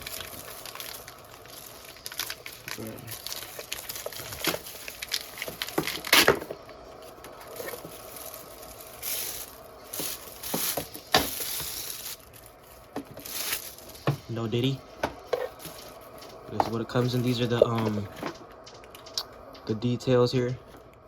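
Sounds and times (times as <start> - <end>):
plastic wrapping crinkling: 0.0 - 19.3.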